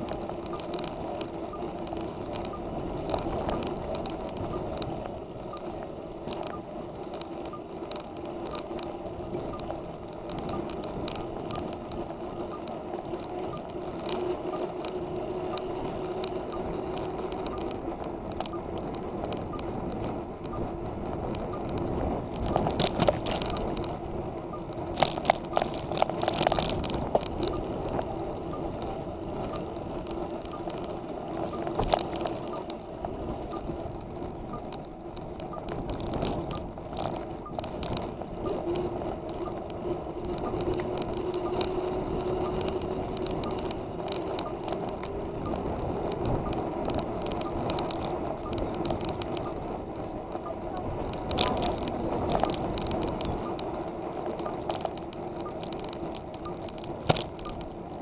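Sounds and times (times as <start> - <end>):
bicycle tyre and drivetrain noise: 0.0 - 58.0
bike rattling over bumps: 0.0 - 58.0.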